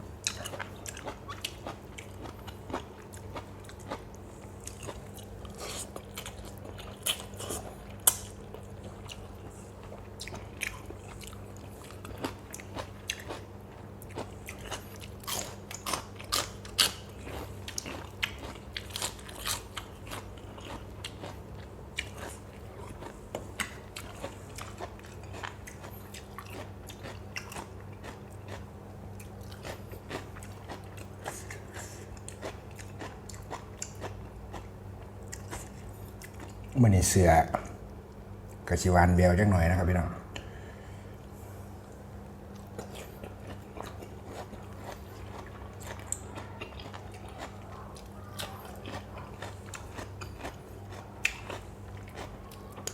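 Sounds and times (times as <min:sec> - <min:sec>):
person chewing crunchy food: 0:00.0 - 0:36.8, 0:40.4 - 0:52.9
low steady hum: 0:00.0 - 0:52.9.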